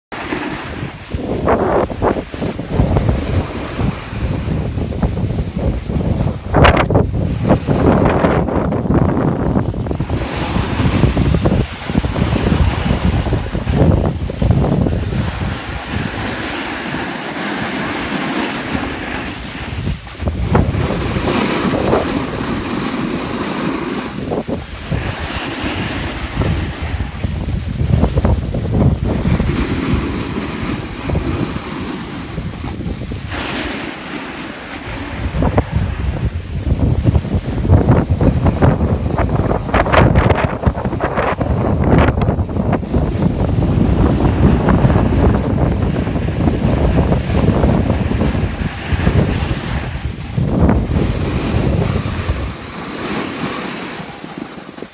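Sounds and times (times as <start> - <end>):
wind buffeting microphone: 0.1 - 54.9.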